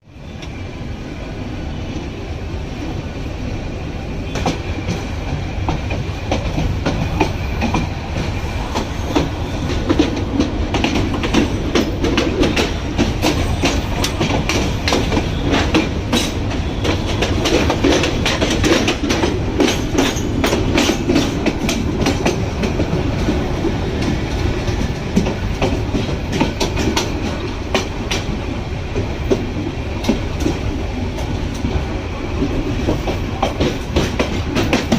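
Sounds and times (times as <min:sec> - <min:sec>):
train rumbling on rails: 0:00.0 - 0:34.9
wheels clickety-clack over rail joints: 0:04.2 - 0:34.9.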